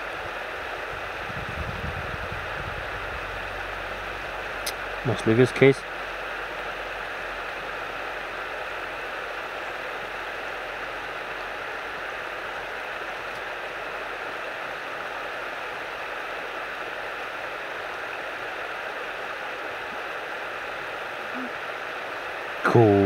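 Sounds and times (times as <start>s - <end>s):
steady rushing hiss: 0.0s - 23.0s.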